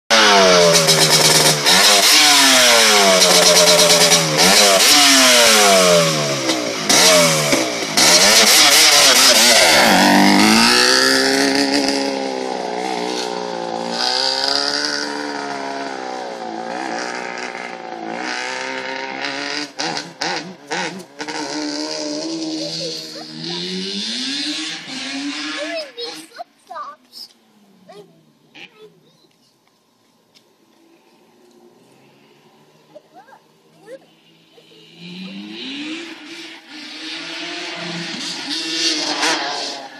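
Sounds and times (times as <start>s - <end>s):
two-stroke quad engine accelerating: 0.1s - 26.3s, 32.5s - 39.9s.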